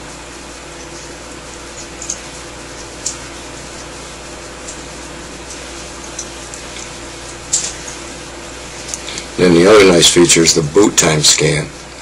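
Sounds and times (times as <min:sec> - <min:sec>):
background hiss with low hum: 0:00.0 - 0:12.0.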